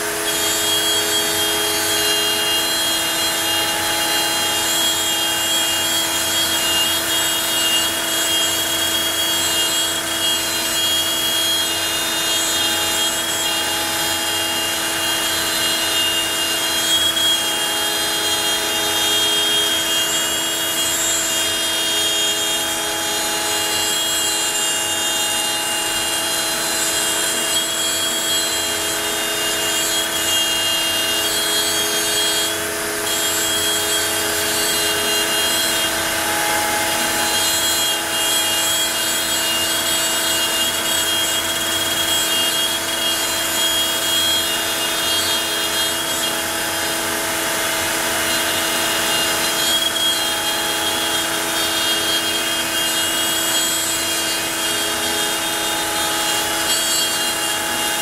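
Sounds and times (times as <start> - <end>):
cnc router humming: 0.0 - 58.0
router bit cutting hiss: 0.0 - 58.0.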